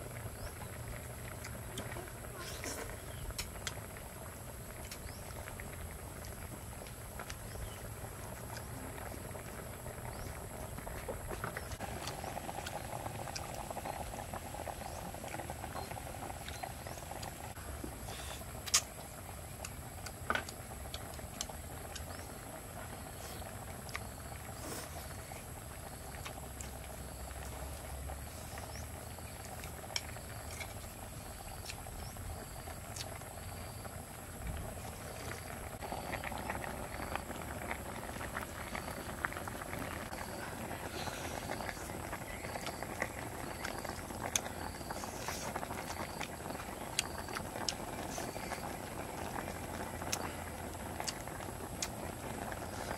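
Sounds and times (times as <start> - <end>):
soup bubbling in pot: 0.0 - 52.9.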